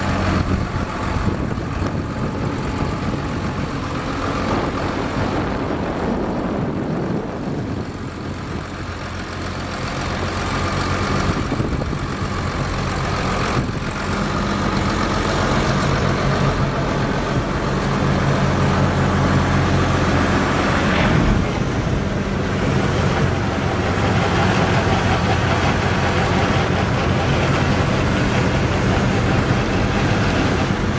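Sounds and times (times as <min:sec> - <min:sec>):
diesel tractor engine idling: 0:00.0 - 0:30.9.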